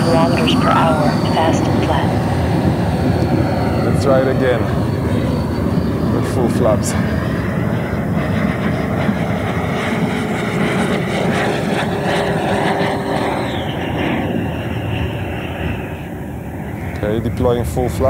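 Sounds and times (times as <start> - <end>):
model jet fan whine: 0.0 - 18.0.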